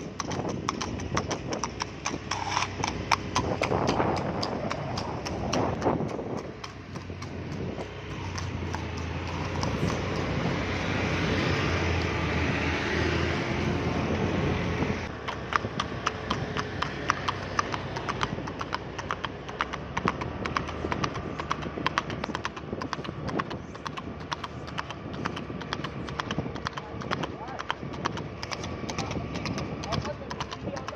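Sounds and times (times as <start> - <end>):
hooves clip-clopping on asphalt: 0.0 - 12.2, 15.0 - 30.9
steady low rumble: 0.0 - 12.6, 13.4 - 30.9.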